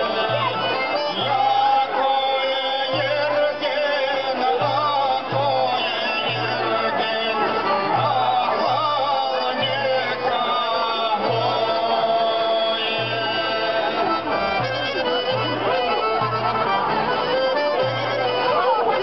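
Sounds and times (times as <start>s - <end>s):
folk dance music on plucked lutes: 0.0s - 19.0s.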